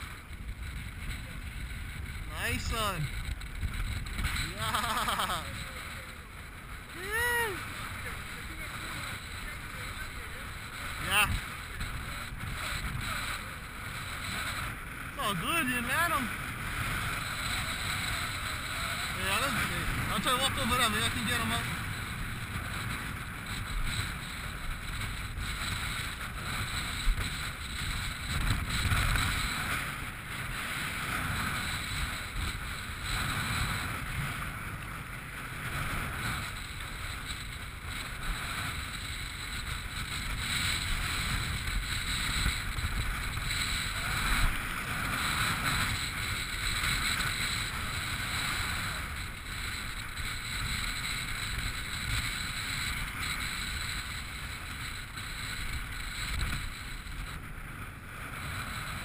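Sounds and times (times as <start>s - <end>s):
surf washing over rocks: 0.0s - 59.0s
wind buffeting microphone: 0.0s - 59.0s.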